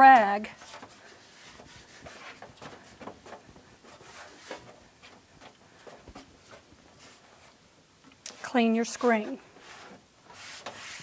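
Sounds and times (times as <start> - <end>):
cloth rubbing on glass screen: 0.0 - 7.7, 8.3 - 11.0.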